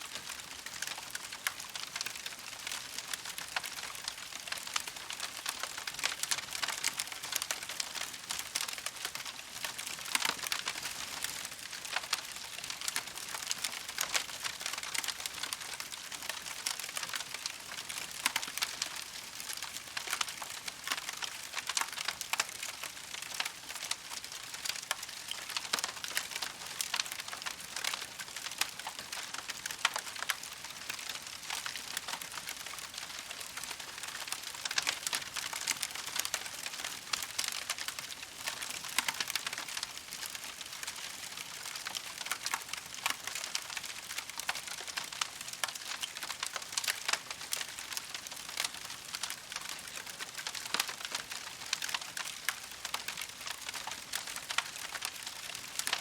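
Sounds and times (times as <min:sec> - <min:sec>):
campfire crackling: 0:00.2 - 0:56.0.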